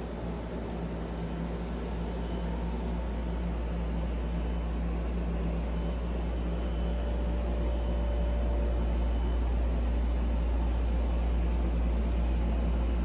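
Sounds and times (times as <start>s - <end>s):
machinery hum and whir: 0.0s - 13.0s.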